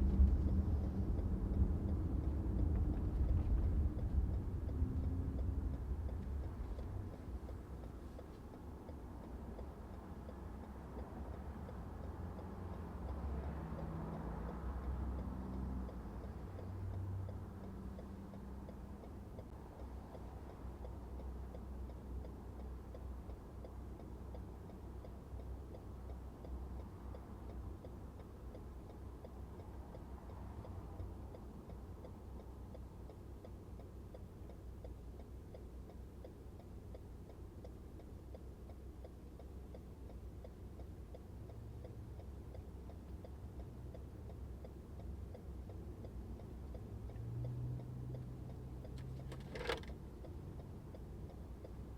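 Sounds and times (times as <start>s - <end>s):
engine and road rumble: 0.0s - 51.9s
turn-signal indicator ticking: 0.0s - 51.9s.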